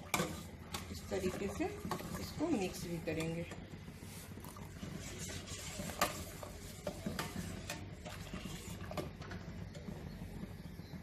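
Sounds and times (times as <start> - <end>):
spoon stirring in a pot: 0.0 - 11.0.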